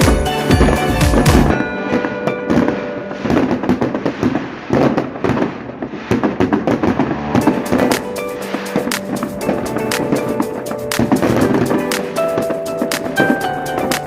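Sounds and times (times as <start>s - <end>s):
music: 0.0s - 4.2s, 6.8s - 14.0s
fireworks bangs and crackles: 0.0s - 14.0s.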